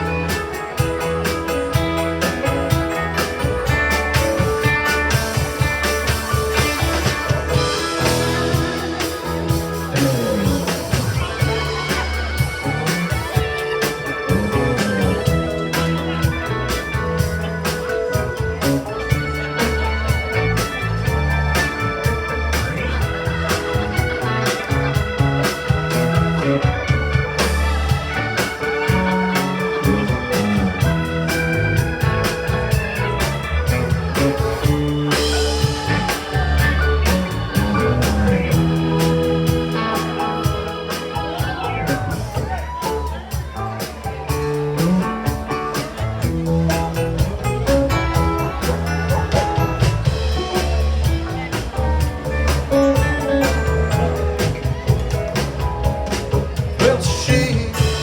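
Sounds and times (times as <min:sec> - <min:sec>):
organ sustained chords: 0:00.0 - 0:42.6, 0:43.2 - 0:58.0
rock band playing: 0:00.0 - 0:58.0.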